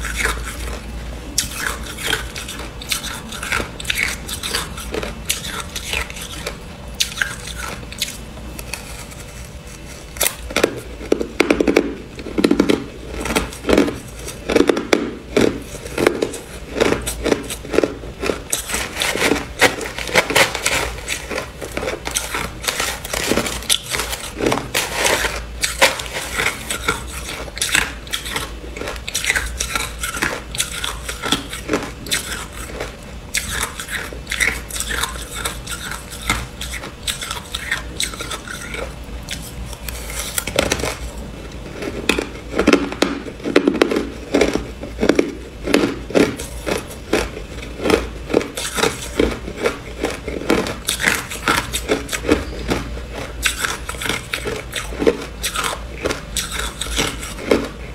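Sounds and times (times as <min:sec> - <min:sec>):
crunching ice being chewed: 0:00.0 - 0:57.9.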